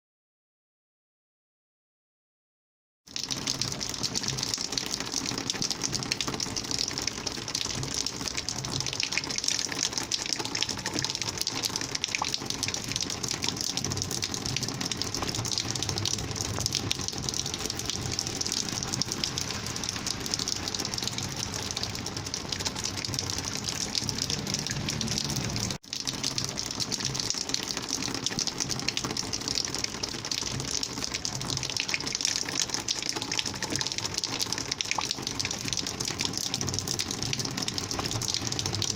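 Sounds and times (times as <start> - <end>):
rainwater rushing: 3.1 - 38.9.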